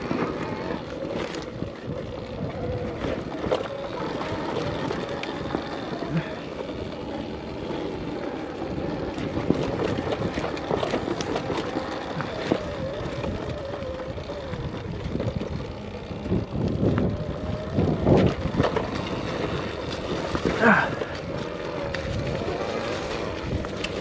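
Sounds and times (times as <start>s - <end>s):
electric motor whine: 0.0s - 24.0s
tyre and ground noise: 0.0s - 24.0s.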